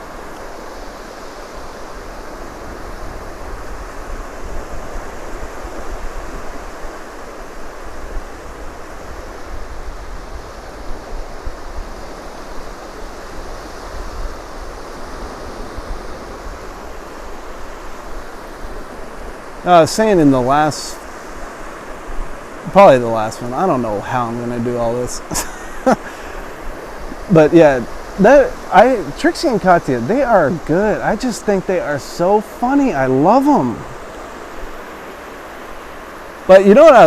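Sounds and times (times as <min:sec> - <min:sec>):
surf washing on sand beach: 0:00.0 - 0:37.0
wind gusting on microphone: 0:00.0 - 0:37.0.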